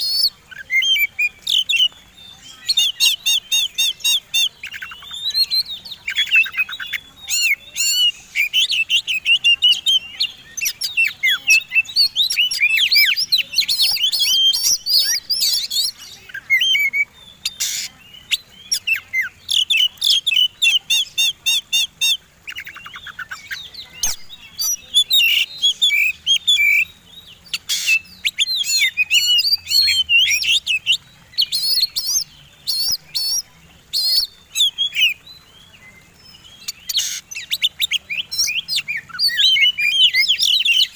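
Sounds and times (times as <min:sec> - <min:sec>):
magpie-robins singing: 0:00.0 - 0:40.9.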